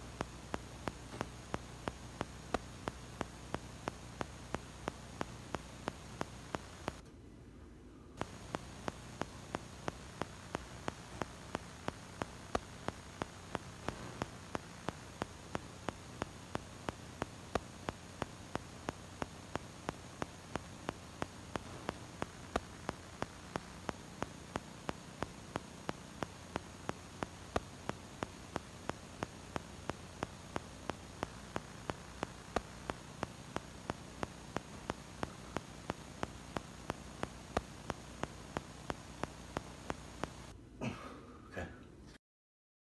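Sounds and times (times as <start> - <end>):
electrical hum and hiss: 0.0 - 42.2.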